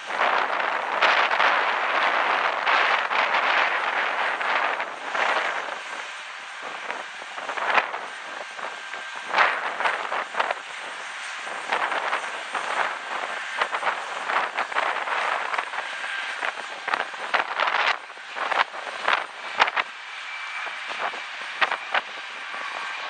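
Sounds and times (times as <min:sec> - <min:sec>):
jet engines running: 0:00.0 - 0:23.0
wind buffeting microphone: 0:00.0 - 0:23.0.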